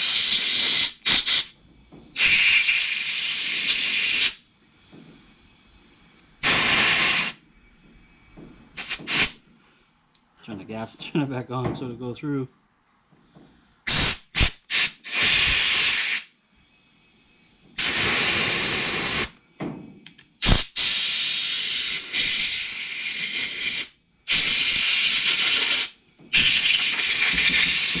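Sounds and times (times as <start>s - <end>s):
compressed air hissing blasts: 0.0s - 7.5s, 8.1s - 9.4s, 13.4s - 28.0s.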